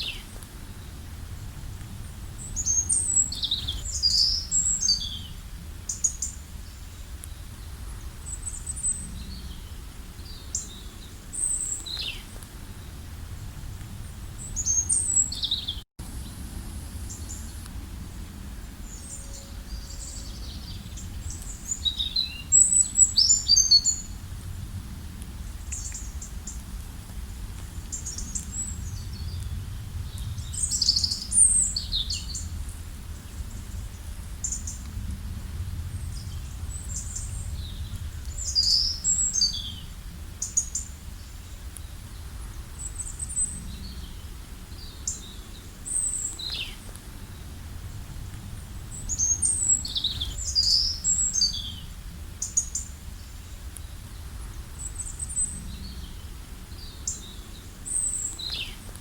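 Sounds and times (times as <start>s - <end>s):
low outdoor rumble: 0.0s - 59.0s
small birds chirping: 2.0s - 13.1s, 14.0s - 16.4s, 17.0s - 24.3s, 25.4s - 26.7s, 27.6s - 35.1s, 36.0s - 59.0s.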